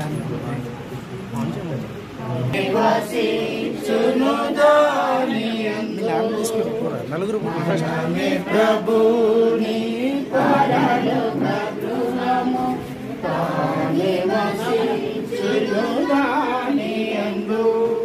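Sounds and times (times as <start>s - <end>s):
group singing a hymn: 2.2s - 18.0s.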